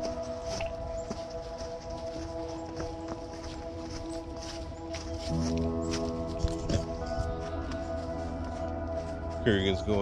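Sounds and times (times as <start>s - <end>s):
music of sustained chords: 0.0s - 10.0s.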